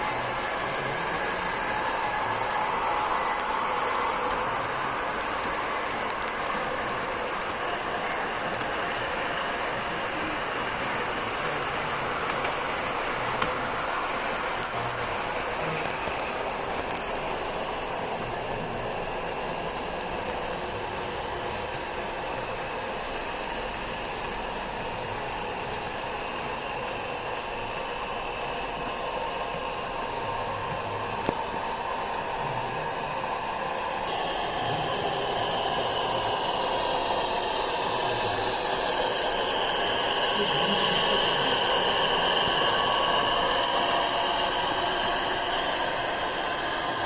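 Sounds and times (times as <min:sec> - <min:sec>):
model train wheels rumbling on rails: 0:00.0 - 0:47.0.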